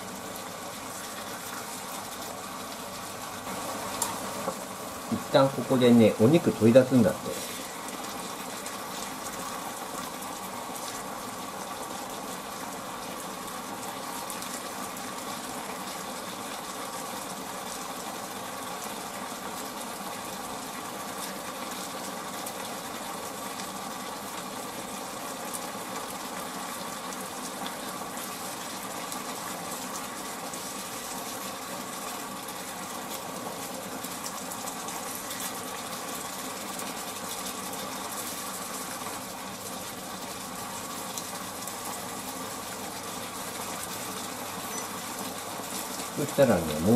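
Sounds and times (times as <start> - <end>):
constant mechanical hum: 0.0 - 46.9
meat and onions sizzling in a pan: 0.0 - 46.9.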